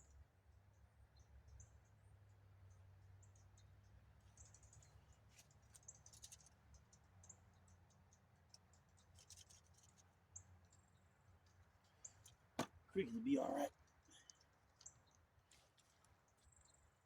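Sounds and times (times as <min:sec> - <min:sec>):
faint outdoor hum: 0:00.0 - 0:17.0.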